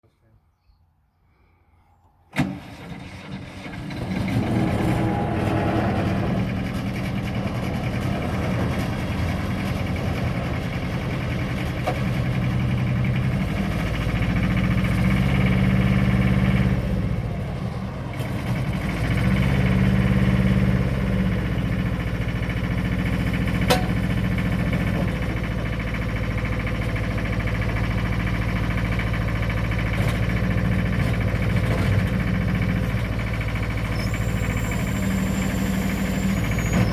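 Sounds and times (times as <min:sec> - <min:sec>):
skid steer engine running: 0:02.3 - 0:36.9.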